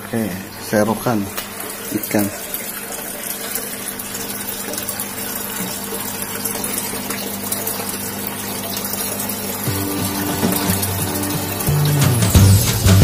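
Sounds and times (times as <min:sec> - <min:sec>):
faint pump hum: 0:00.0 - 0:12.0
circulating water rushing: 0:00.0 - 0:13.0.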